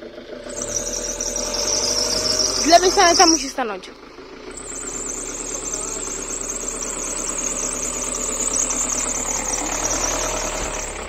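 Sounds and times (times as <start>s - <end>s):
motorhome engine running: 0.0s - 11.0s.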